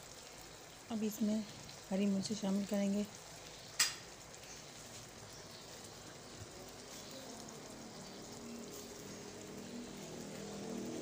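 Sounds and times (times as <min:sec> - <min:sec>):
potatoes sizzling in frying pan: 0:00.0 - 0:11.0.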